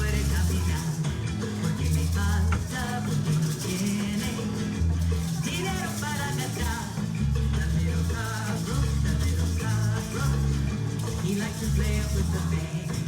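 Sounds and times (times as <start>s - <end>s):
latin-style music: 0.0s - 13.0s.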